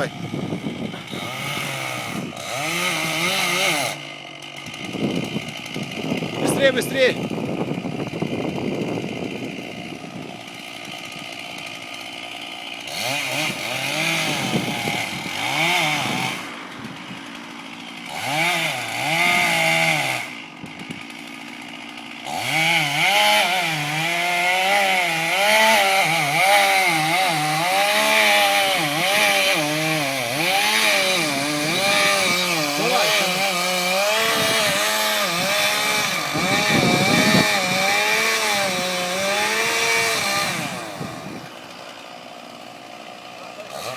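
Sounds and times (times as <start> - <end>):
chainsaw cutting and revving: 0.0 - 43.9.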